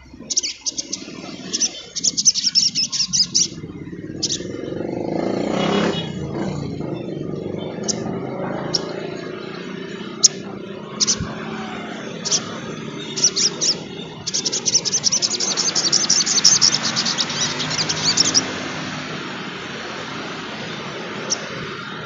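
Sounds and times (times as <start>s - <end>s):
bird chirping and chattering: 0.0s - 22.0s.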